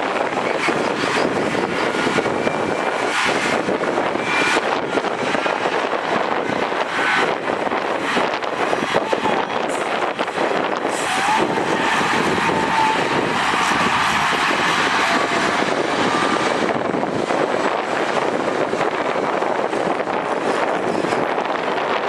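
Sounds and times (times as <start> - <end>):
diesel machinery running: 0.0 - 22.0.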